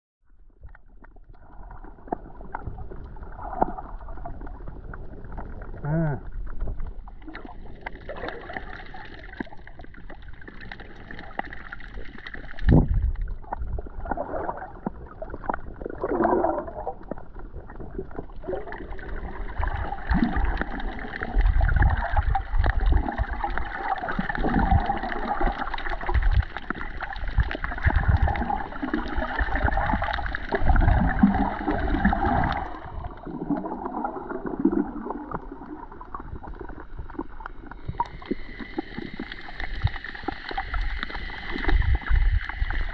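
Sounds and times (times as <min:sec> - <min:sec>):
underwater gurgling and sloshing: 0:00.2 - 0:42.9.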